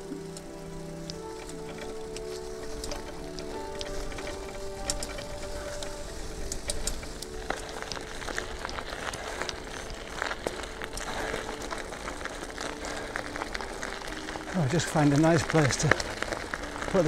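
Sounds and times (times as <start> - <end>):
bicycle tyres rolling on dirt: 0.0 - 17.0.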